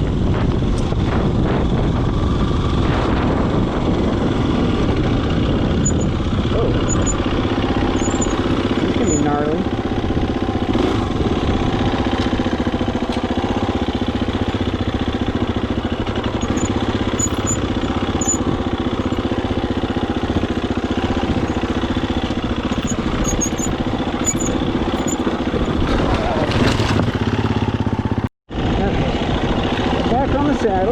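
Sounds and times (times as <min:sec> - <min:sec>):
dirt bike engine running: 0:00.0 - 0:30.9.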